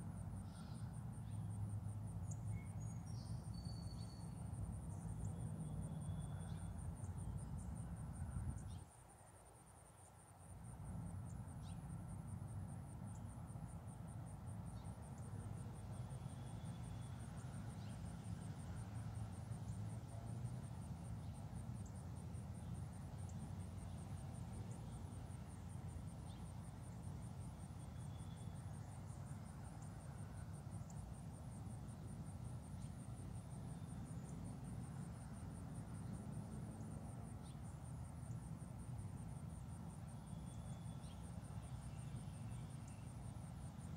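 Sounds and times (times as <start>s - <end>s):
insects trilling: 0.1s - 43.9s.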